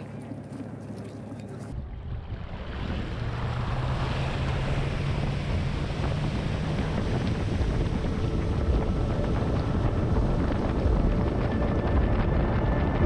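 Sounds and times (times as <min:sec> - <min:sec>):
wind buffeting the microphone: 0:01.6 - 0:13.0.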